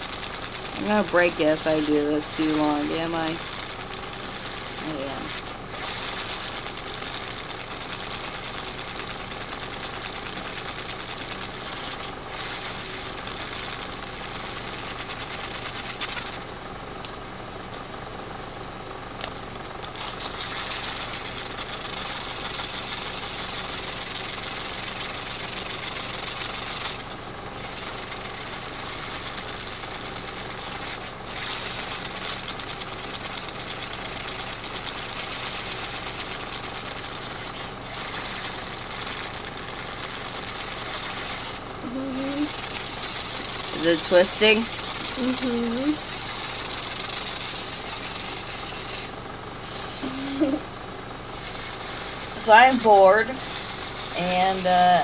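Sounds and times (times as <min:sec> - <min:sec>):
toy motor buzzing and rattling: 0:00.0 - 0:16.5, 0:19.8 - 0:55.0.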